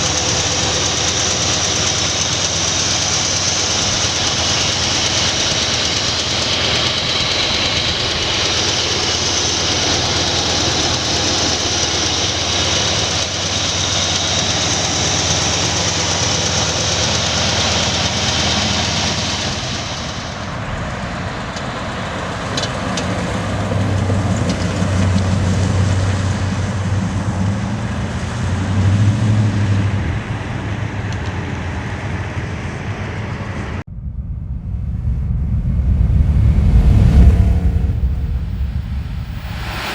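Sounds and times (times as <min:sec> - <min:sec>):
car engine hum: 0:00.0 - 0:39.9
road and wind noise: 0:00.0 - 0:39.9.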